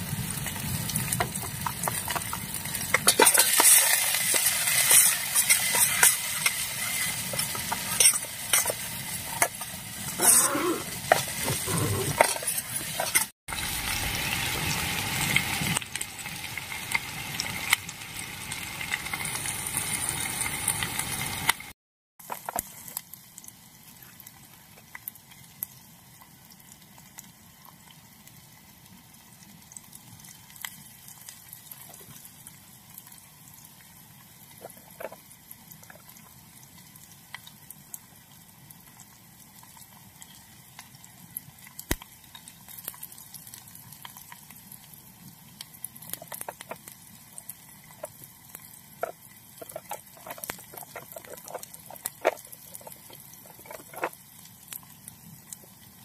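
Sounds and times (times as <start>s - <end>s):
onions sizzling in a pot: 0.0s - 56.0s.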